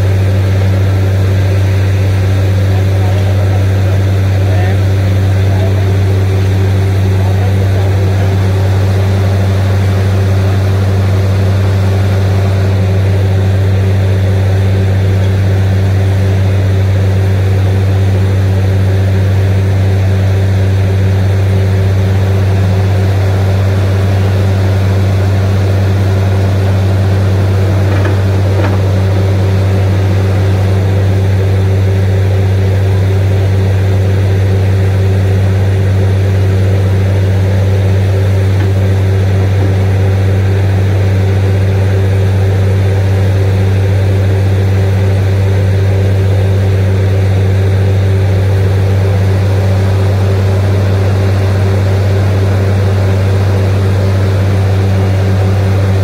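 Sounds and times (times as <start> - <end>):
drilling rig engine drone: 0.0 - 56.0.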